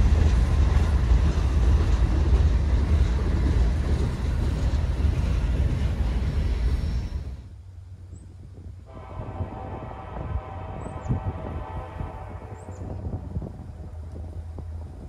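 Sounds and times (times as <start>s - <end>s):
train wheels on rails: 0.0s - 7.6s, 8.9s - 15.0s
passenger train rumbling past: 0.0s - 15.0s.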